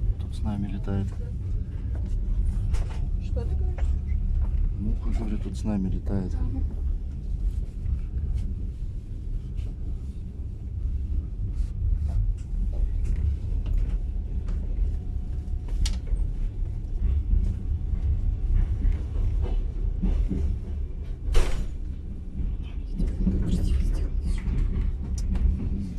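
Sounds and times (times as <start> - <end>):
train rumbling inside carriage: 0.0 - 25.9.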